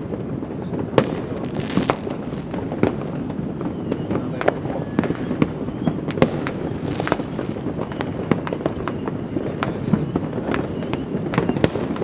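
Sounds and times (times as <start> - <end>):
distant fireworks crackling: 0.0 - 12.0
firework bangs and pops: 0.0 - 12.0.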